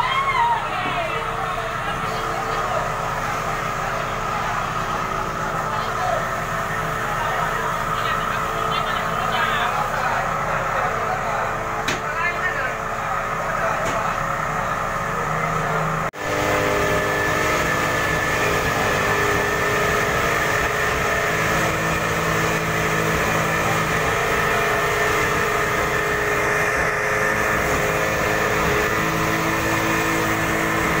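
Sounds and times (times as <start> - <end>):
fire truck engine humming: 0.0 - 31.0.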